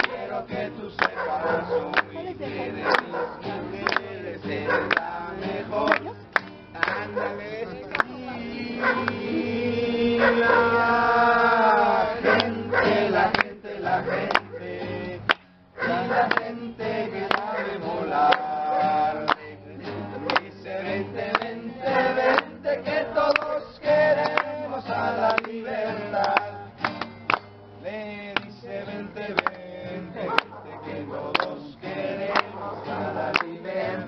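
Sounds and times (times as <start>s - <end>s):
man singing: 0.0s - 26.8s, 27.8s - 34.0s
voices singing along: 0.0s - 26.9s, 27.8s - 34.0s
acoustic guitar strumming: 0.0s - 34.0s.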